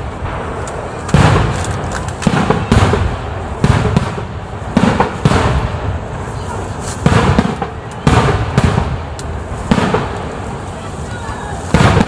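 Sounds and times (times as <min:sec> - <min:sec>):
fireworks booming: 0:00.0 - 0:12.0
fireworks crackling: 0:00.0 - 0:12.0
rolling rumble: 0:00.0 - 0:12.0.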